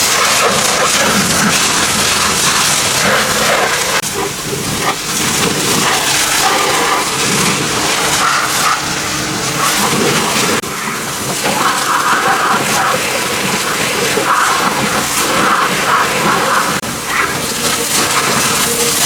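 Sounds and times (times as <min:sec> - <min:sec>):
loud steady hissing: 0:00.0 - 0:19.0.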